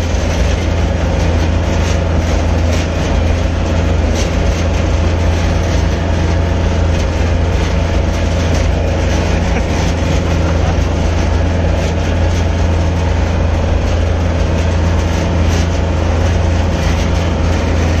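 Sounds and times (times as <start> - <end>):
tractor engine running: 0.0 - 18.0
rattling: 0.1 - 18.0.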